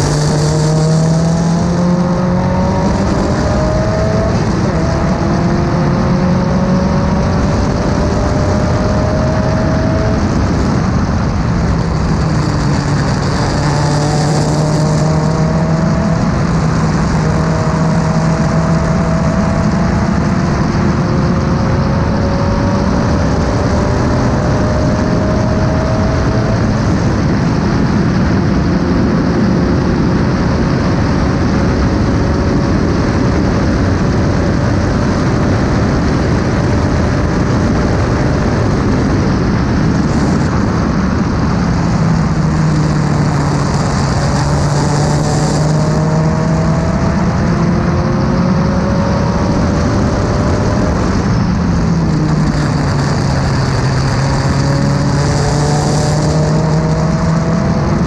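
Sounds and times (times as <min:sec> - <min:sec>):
race car engine at high revs: 0:00.0 - 0:58.0
wind and road noise: 0:00.0 - 0:58.0.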